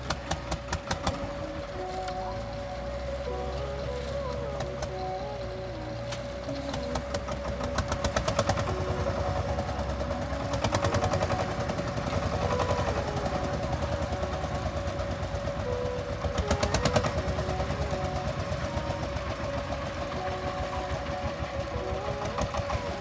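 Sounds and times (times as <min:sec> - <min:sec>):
engine knocking clatter: 0:00.0 - 0:23.0.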